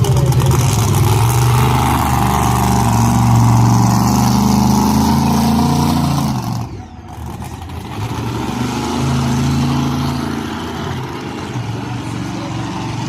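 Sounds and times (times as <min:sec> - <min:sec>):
racing kart engines: 0:00.0 - 0:13.0.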